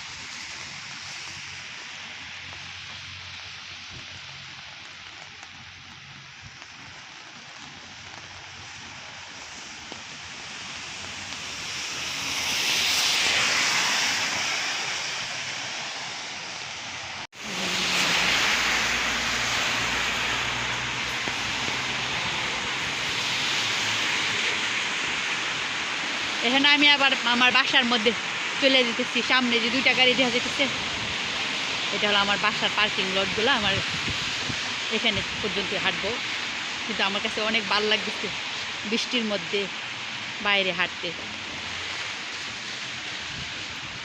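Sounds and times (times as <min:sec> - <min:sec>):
heavy rain hiss: 0:00.0 - 0:44.0
tyres swishing on wet road: 0:00.0 - 0:44.0.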